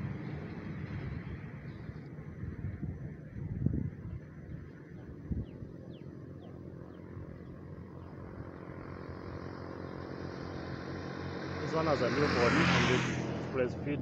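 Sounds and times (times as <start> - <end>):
distant vehicle engine rumble: 0.0 - 14.0.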